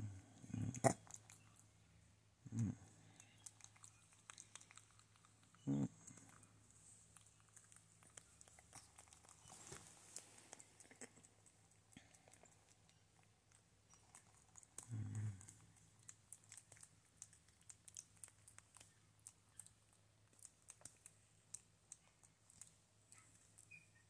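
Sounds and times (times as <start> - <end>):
clicks and crackles of grooming: 3.1 - 6.5, 7.1 - 23.7.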